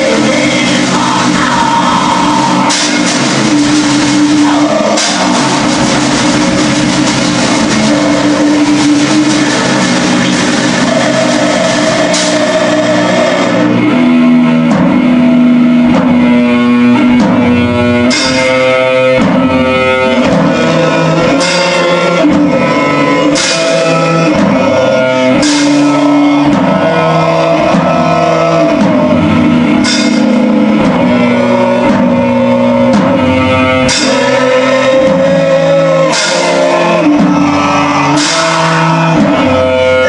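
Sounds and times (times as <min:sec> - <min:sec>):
cymbal crashes: 0:00.0 - 0:40.0
distorted electric guitars: 0:00.0 - 0:40.0
drums: 0:00.0 - 0:40.0.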